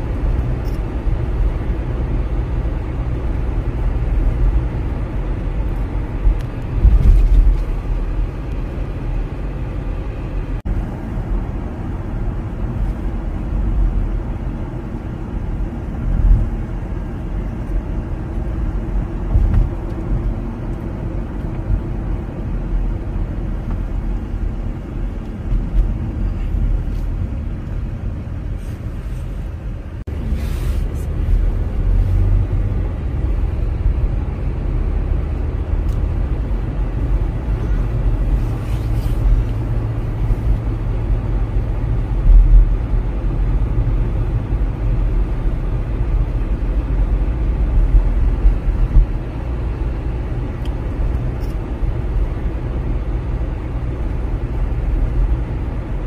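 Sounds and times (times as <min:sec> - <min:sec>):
tyre and engine rumble inside car: 0:00.0 - 0:56.0.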